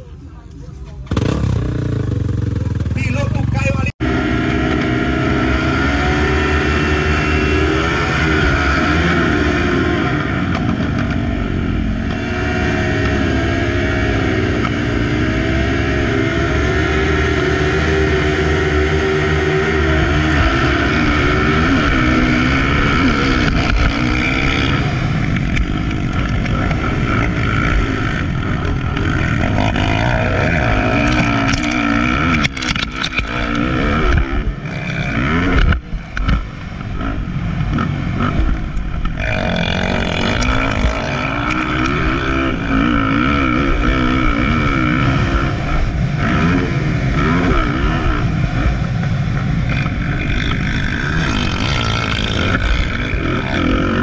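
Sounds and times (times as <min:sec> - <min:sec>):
bikes accelerating away: 0:00.0 - 0:54.0
motocross bike engines revving: 0:00.0 - 0:54.0.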